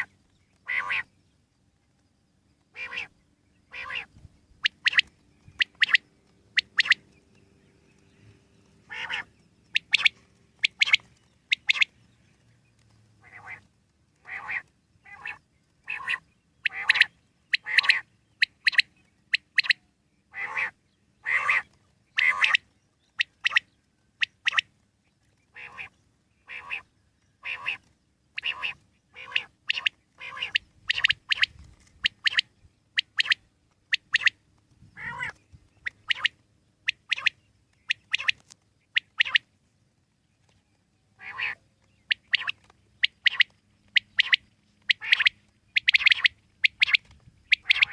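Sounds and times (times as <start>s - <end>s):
quail calling: 0.0s - 1.1s, 2.7s - 7.0s, 8.9s - 11.9s, 13.2s - 24.7s, 25.5s - 34.4s, 35.0s - 39.4s, 41.2s - 47.9s.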